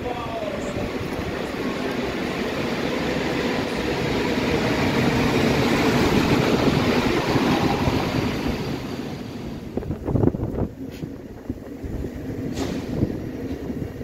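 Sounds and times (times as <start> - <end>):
electric train rumble and rail noise: 0.0 - 14.0.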